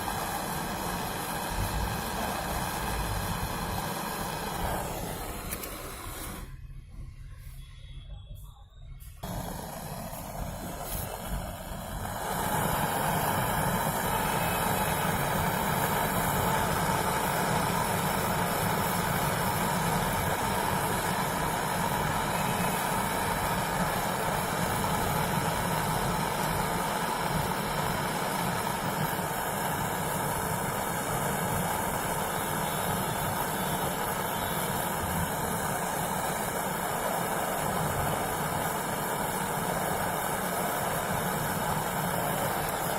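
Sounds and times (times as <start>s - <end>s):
compressor running: 0.0s - 6.9s, 9.0s - 42.9s.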